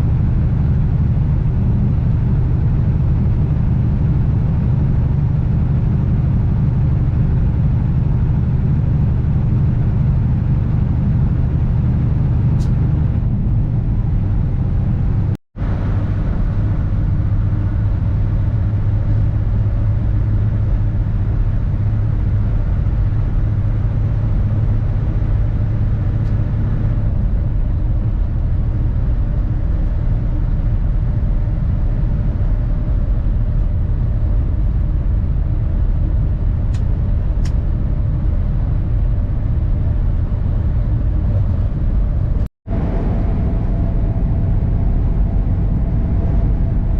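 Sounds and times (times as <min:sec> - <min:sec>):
truck diesel engine drone: 0:00.0 - 0:46.9.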